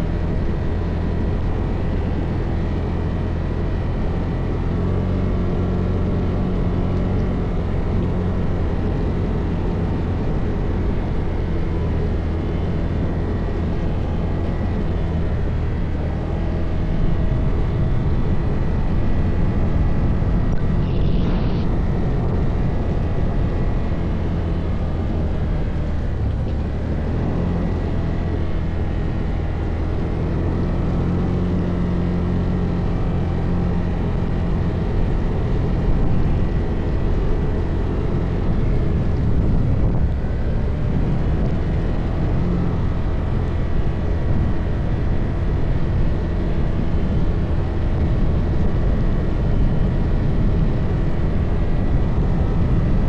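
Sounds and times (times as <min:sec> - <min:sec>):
atv engine droning: 0:00.0 - 0:53.0.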